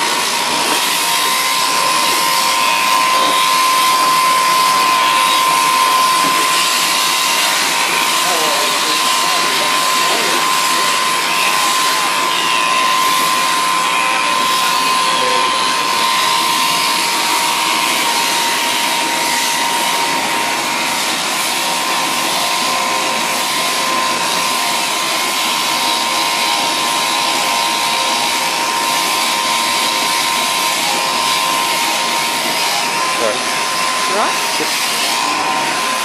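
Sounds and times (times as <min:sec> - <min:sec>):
shearing handpiece whirring buzz: 0:00.0 - 0:36.0.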